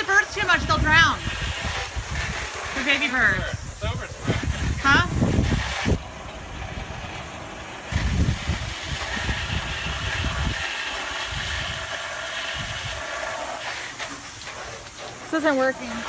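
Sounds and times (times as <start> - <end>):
water spraying: 0.0 - 16.0.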